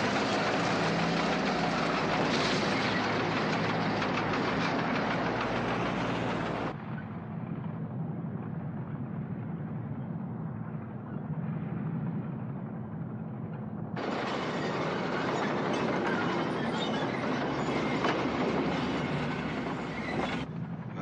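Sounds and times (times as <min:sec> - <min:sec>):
truck engines rumbling: 0:00.0 - 0:07.8, 0:11.4 - 0:21.0.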